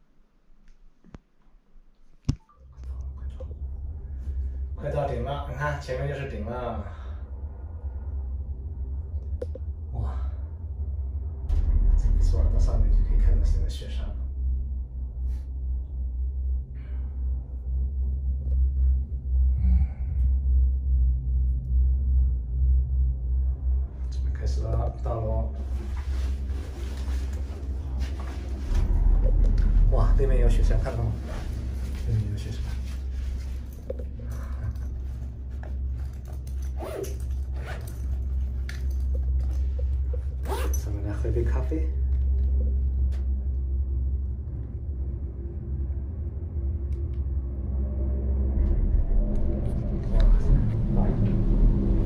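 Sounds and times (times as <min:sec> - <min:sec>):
chairlift low rumble: 0:02.8 - 0:52.0.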